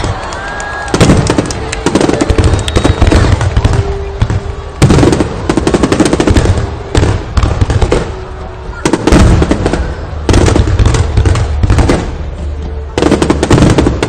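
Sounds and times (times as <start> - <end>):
fireworks booming and crackling: 0.0 - 14.0.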